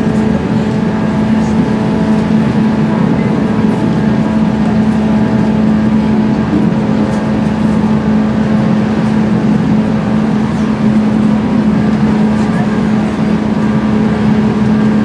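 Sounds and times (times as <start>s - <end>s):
train interior hum: 0.0s - 15.0s
wheels rumbling on rail: 0.0s - 15.0s.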